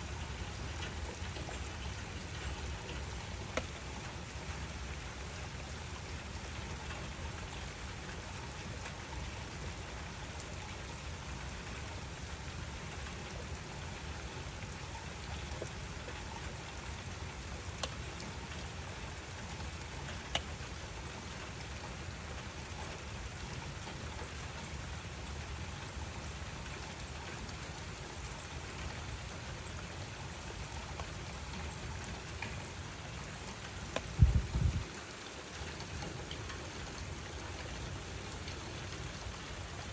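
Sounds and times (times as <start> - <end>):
drips ticking: 0.0 - 39.9
steady rain: 0.0 - 39.9.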